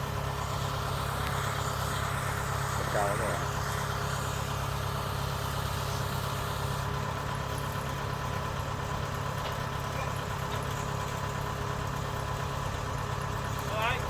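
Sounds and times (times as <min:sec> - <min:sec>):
combine harvester engine running: 0:00.0 - 0:14.0.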